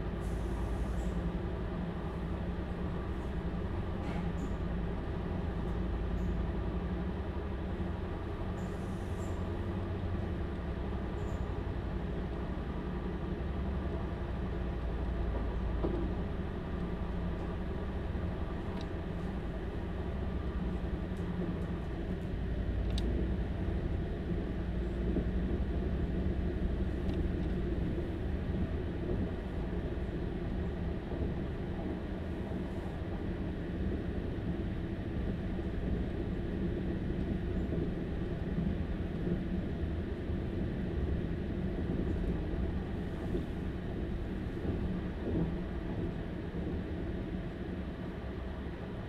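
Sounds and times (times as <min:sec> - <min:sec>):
train diesel engines running: 0:00.0 - 0:49.0.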